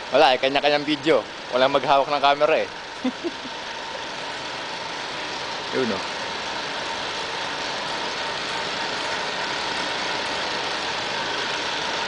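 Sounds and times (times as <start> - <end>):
electric hoist whirring: 0.0 - 12.0.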